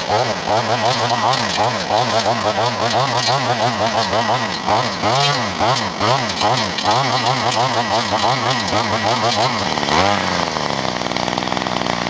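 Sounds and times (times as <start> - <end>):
trimmer engine revving: 0.0 - 12.0.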